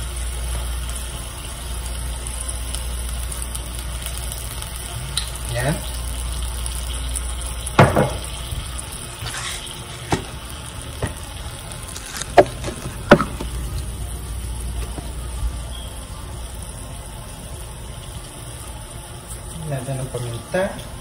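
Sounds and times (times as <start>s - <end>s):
sauce sizzling in a frying pan: 0.0s - 21.0s.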